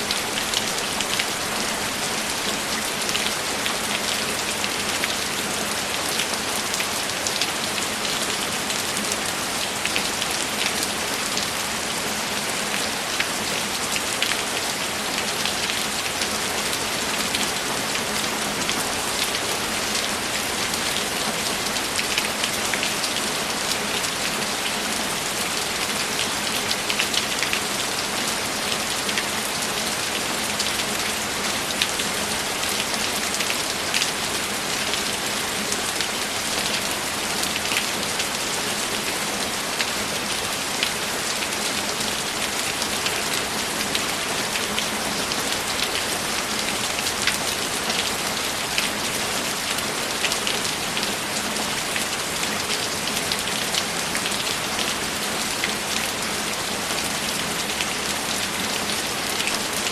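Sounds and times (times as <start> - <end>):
dense rainfall hiss: 0.0 - 59.9.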